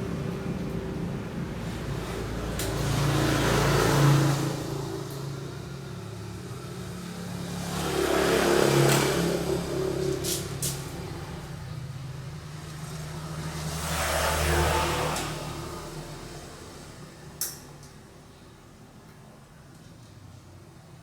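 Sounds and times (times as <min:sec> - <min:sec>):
vehicles passing: 0:00.0 - 0:19.5.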